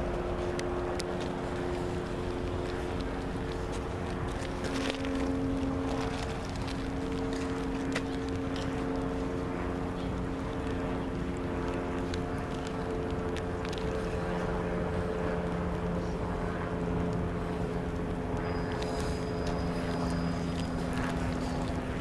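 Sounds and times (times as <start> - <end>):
engines droning: 0.0 - 22.0.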